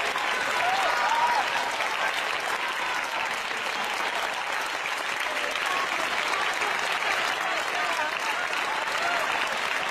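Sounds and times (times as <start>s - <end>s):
applause: 0.0s - 9.9s.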